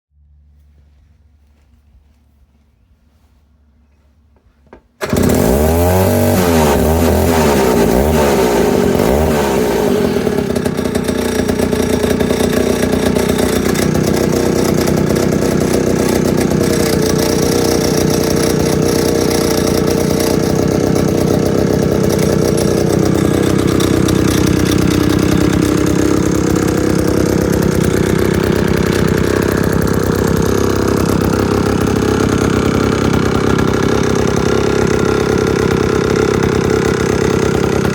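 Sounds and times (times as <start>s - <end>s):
chainsaw engine revving: 5.0s - 37.9s.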